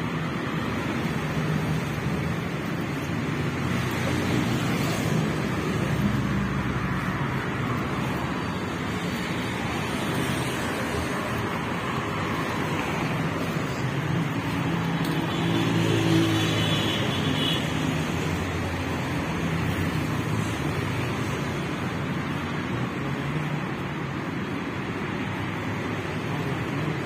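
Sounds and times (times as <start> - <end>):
cars driving past: 0.0 - 27.0.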